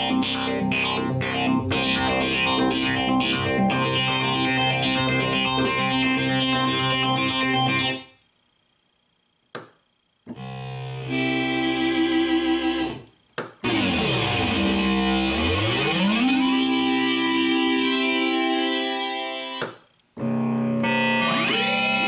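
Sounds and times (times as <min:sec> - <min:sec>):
synthesizer chords: 0:00.0 - 0:08.1, 0:10.3 - 0:22.0.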